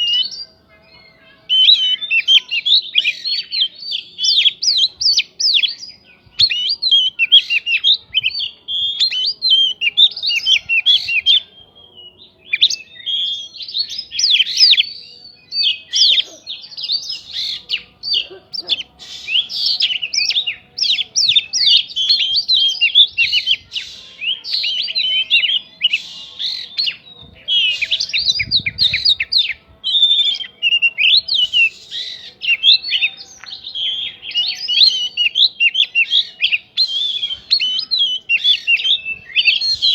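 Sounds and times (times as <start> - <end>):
songbird singing whistles and chatters: 0.0 - 39.9.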